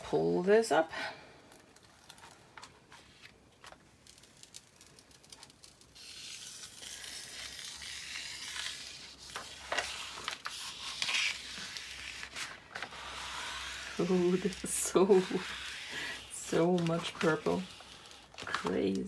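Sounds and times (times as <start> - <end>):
plastic film peeling off: 1.5 - 19.0.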